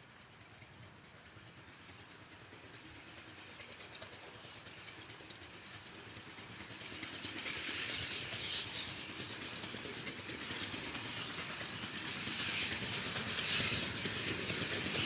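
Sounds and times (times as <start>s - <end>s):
light rail clicks: 0.0s - 15.0s
steam train approaching: 0.0s - 15.0s
steam hiss: 0.7s - 15.0s.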